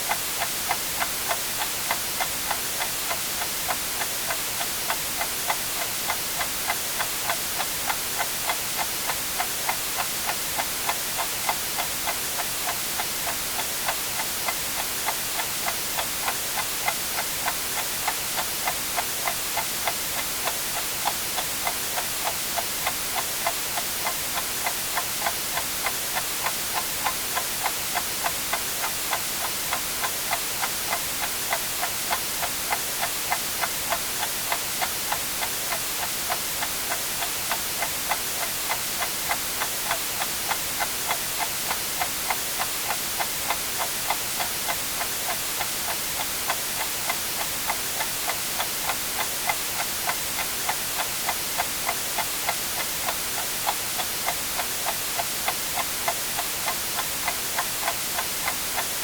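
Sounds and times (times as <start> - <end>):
white noise hiss: 0.0 - 59.0
clock ticking: 0.1 - 59.0.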